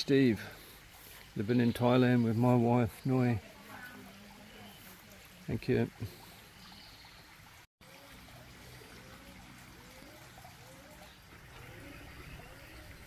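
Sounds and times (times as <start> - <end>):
waterfall trickling into pond: 0.0 - 13.0.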